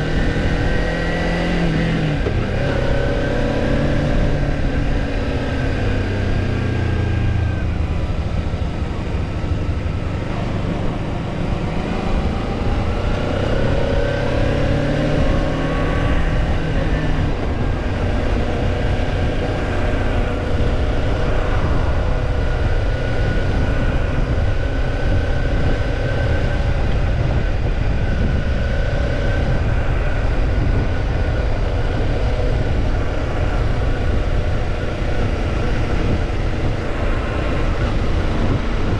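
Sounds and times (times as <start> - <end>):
motorcycle engine on the move: 0.0 - 38.9
wind rush on microphone: 0.0 - 38.9.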